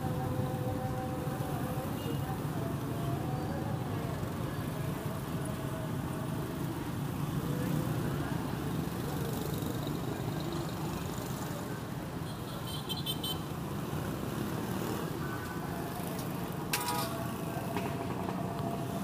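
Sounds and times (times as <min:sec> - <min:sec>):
hum of passing vehicles: 0:00.0 - 0:12.1, 0:13.4 - 0:19.0.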